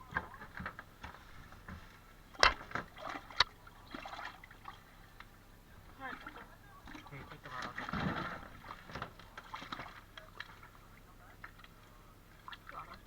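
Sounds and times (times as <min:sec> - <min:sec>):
water sloshing and trickling: 0:00.0 - 0:13.0.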